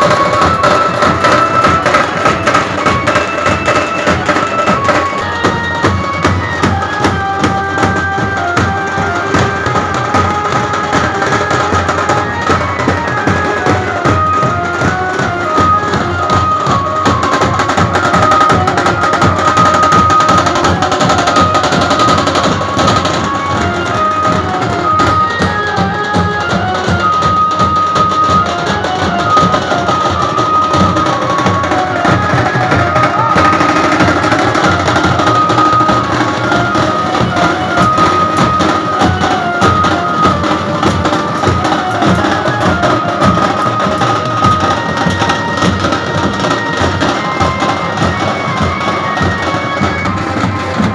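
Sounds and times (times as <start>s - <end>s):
high melody of held notes: 0.0s - 50.9s
steel drums beaten fast: 0.0s - 50.9s.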